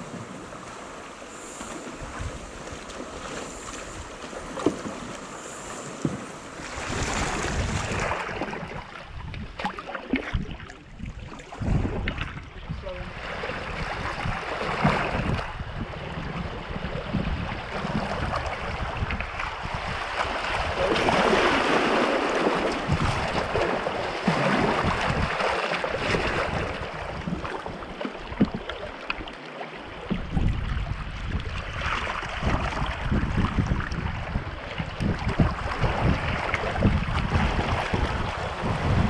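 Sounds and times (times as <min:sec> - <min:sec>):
paddle strokes splashing: 0:00.0 - 0:16.6, 0:17.3 - 0:39.0
wind buffeting microphone: 0:01.8 - 0:28.7, 0:29.9 - 0:39.0.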